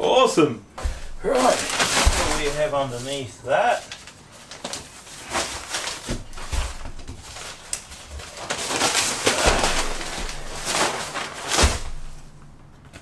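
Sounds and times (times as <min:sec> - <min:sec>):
paper crumpling and rustling: 0:01.2 - 0:12.2.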